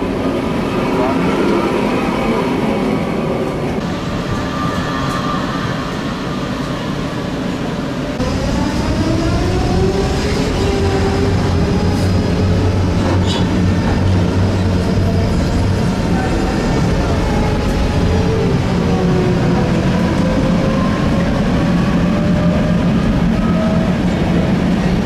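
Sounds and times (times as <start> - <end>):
electric tram running on rails: 0.0 - 25.0.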